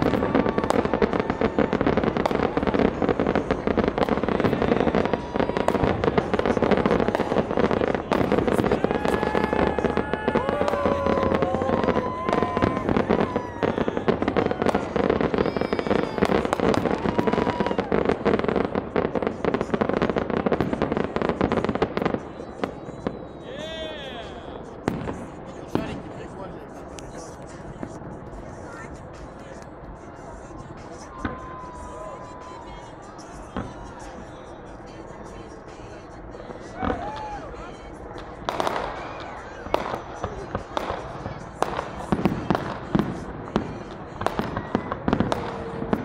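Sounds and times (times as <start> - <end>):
fireworks bangs and crackles: 0.0 - 46.0
fireworks whistles: 0.0 - 46.0.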